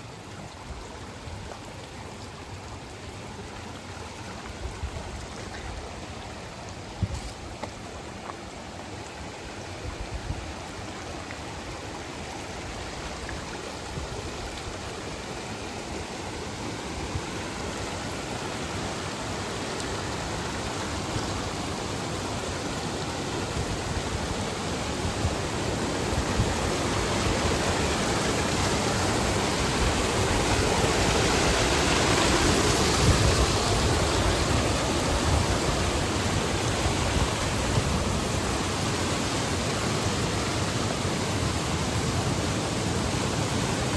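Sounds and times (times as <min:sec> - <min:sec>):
rushing stream water: 0:00.0 - 0:43.9.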